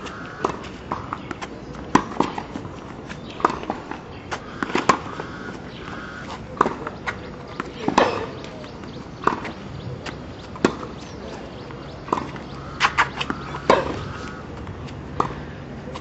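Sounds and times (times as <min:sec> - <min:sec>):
tennis ball bouncing on court: 0:00.0 - 0:16.0
tennis ball struck by rackets: 0:00.0 - 0:16.0.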